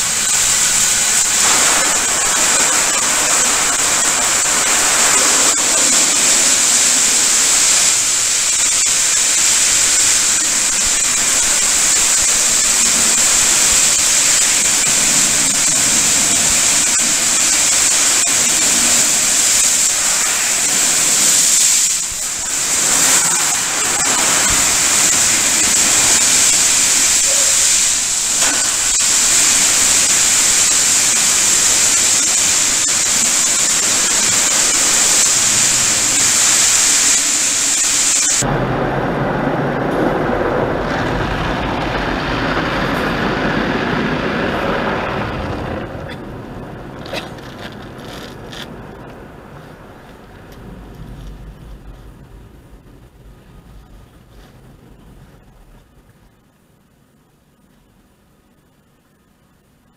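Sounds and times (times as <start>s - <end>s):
car wash water spray and brushes: 0.0s - 59.6s.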